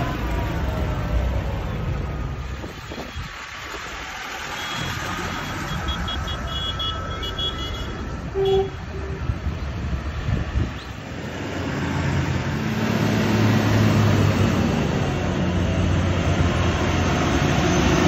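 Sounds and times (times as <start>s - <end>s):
tractor engines running: 0.0s - 18.0s.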